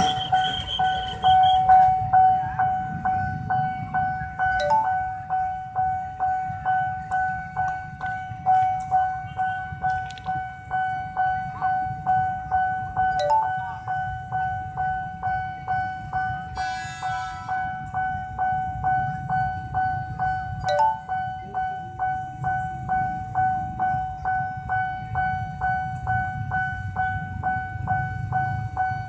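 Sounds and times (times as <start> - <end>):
level-crossing bell ringing: 0.0 - 29.0
two-note chime: 0.0 - 29.0.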